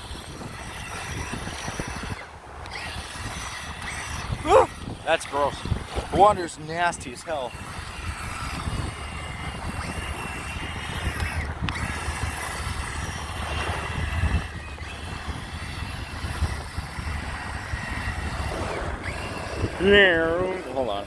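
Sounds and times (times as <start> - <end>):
toy electric motor whine: 0.0 - 21.0
wind rumble on microphone: 0.0 - 21.0.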